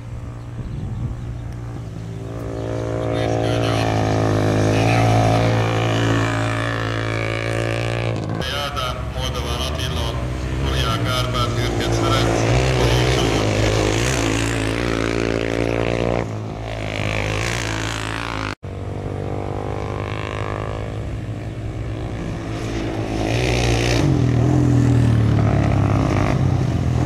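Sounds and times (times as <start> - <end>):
quad engines revving: 0.0 - 27.0.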